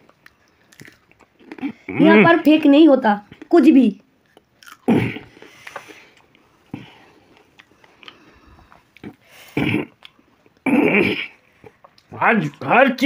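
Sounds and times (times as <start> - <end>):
man chewing: 0.0 - 2.2, 4.2 - 12.6.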